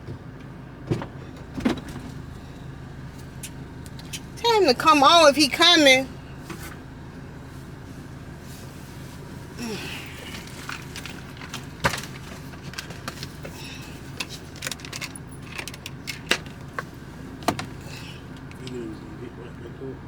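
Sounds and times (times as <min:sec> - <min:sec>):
steady low hum: 0:00.8 - 0:20.0.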